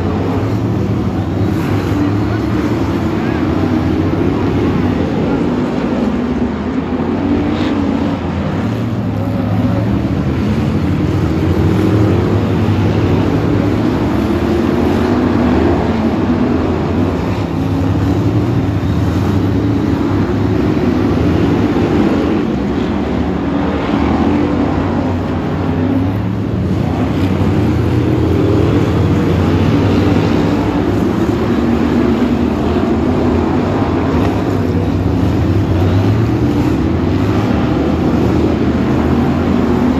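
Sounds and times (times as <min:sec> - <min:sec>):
racing car engines: 0:00.0 - 0:39.9.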